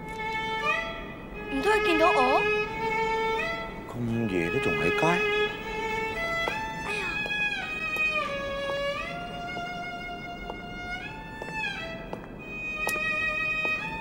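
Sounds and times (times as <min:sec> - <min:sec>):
slow bowed string melody: 0:00.0 - 0:14.0.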